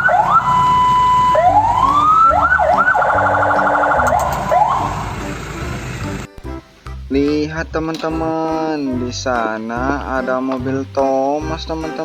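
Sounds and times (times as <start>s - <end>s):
background music with bass line: 1.2s - 12.0s.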